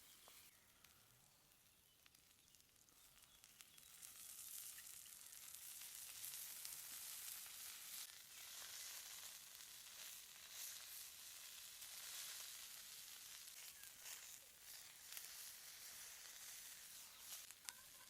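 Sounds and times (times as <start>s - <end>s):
vegetables sizzling on hot stone: 0.0s - 18.0s.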